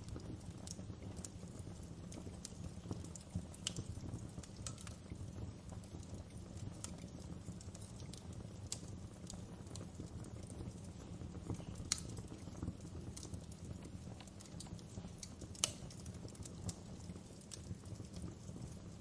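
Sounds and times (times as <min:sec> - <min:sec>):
burning wood crackling and popping: 0:00.0 - 0:19.0
fire flames rumbling: 0:00.0 - 0:19.0.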